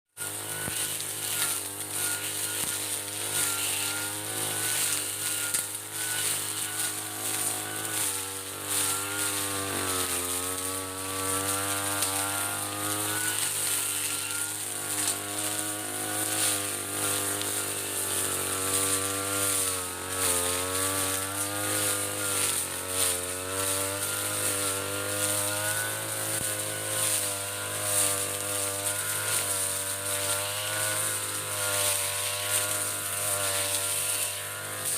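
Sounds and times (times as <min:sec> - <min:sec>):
brush cutter engine running: 0:00.1 - 0:34.9.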